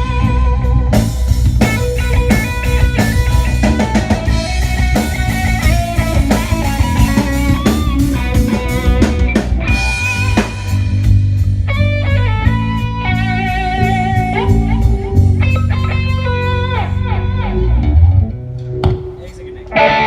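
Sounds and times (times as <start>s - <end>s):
bass guitar: 0.0s - 20.0s
drum kit: 0.0s - 20.0s
guitar bending lead notes: 0.0s - 20.0s.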